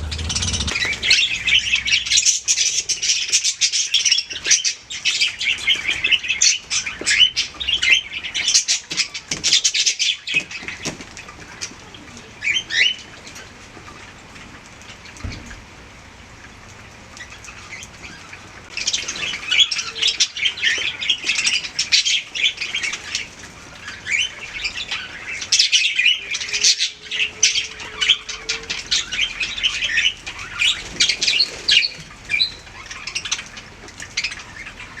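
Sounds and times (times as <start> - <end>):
budgies chattering and warbling: 0.0 - 10.7, 17.2 - 35.0.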